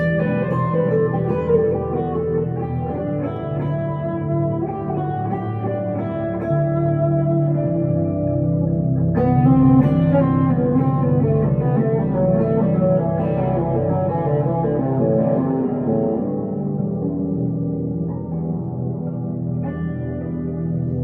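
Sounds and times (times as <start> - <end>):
electric guitar notes ringing: 0.0 - 21.0.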